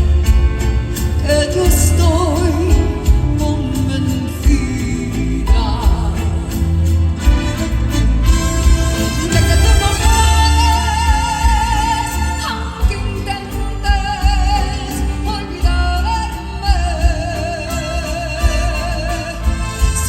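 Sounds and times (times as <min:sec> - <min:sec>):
live band playing a ballad: 0:00.0 - 0:20.0
steady bass: 0:00.0 - 0:20.0
woman singing with vibrato: 0:01.0 - 0:07.3, 0:09.0 - 0:20.0.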